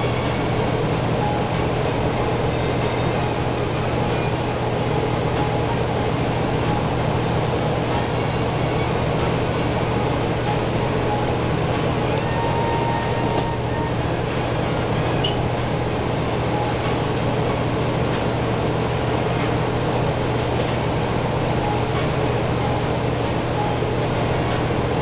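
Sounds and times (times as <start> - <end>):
train car hum and hiss: 0.0 - 25.0.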